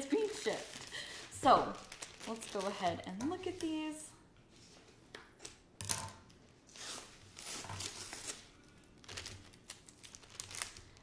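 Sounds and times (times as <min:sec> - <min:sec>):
plastic crinkling and rustling: 0:00.0 - 0:05.6, 0:06.5 - 0:11.0.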